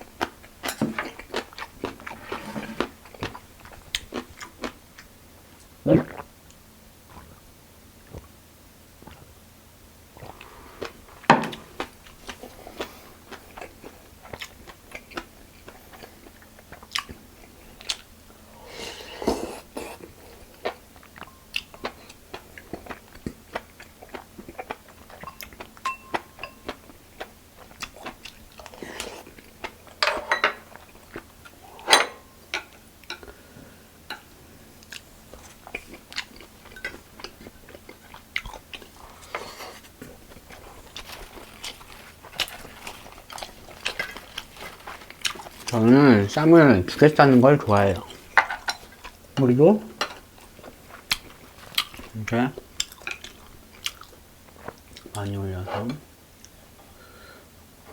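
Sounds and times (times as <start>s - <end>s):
food crunching: 0.0s - 7.3s, 10.2s - 18.1s, 19.4s - 31.8s, 34.0s - 55.4s
chewing food: 0.0s - 7.4s, 10.2s - 18.2s, 19.4s - 31.8s, 32.5s - 57.0s.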